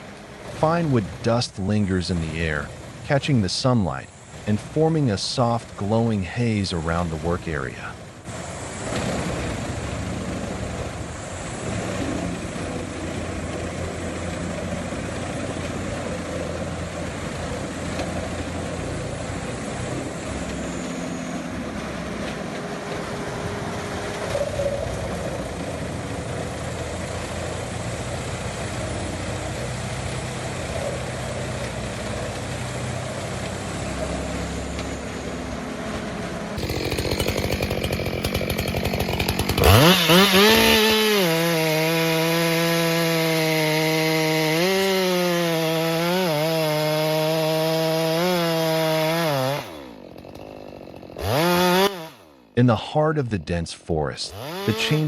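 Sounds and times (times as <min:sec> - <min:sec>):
wood chipper engine droning: 0:00.0 - 0:52.8, 0:53.4 - 0:55.0.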